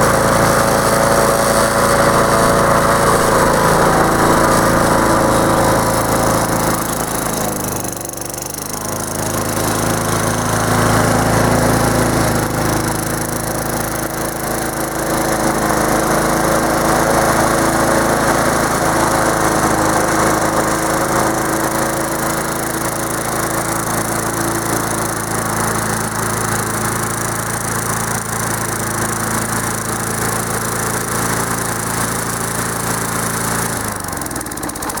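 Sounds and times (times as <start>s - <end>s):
lawn mower engine running: 0.0s - 35.0s.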